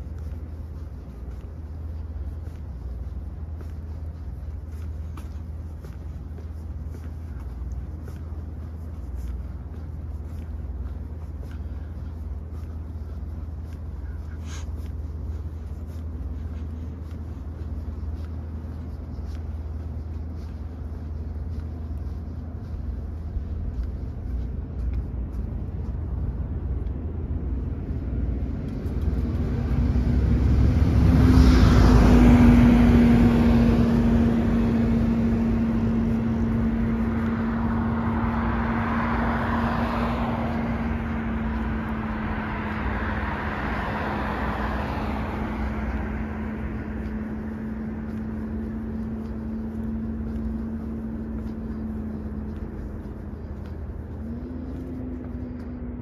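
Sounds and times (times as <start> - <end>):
steady low tone: 0.0 - 56.0
vehicle passing by: 0.0 - 56.0.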